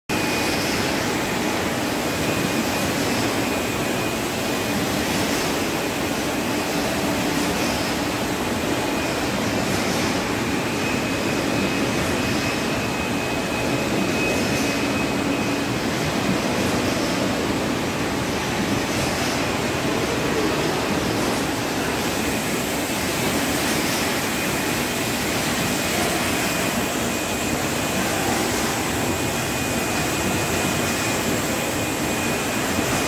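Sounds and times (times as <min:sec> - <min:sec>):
packaging line machinery: 0:00.1 - 0:33.0.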